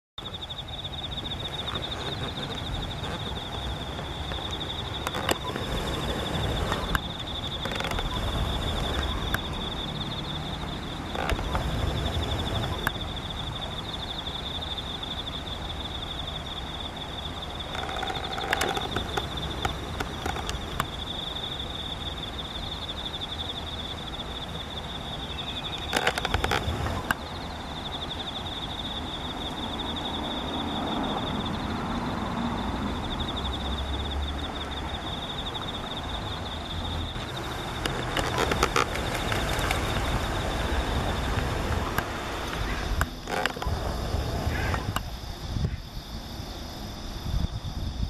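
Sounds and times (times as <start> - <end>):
insects trilling: 0.2 - 48.0.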